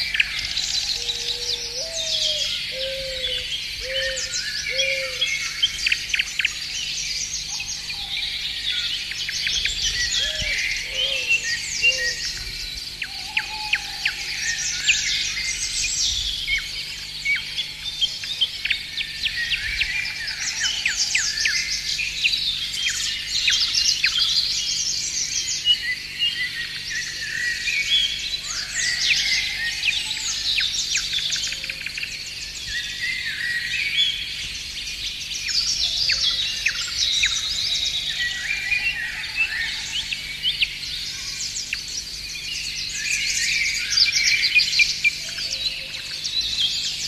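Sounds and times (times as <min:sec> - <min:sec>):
songbirds chirping and trilling: 0:00.0 - 0:47.0.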